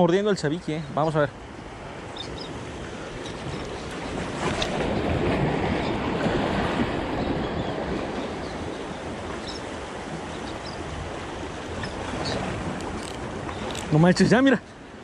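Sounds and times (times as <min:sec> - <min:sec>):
small waves washing against concrete: 0:01.7 - 0:15.0.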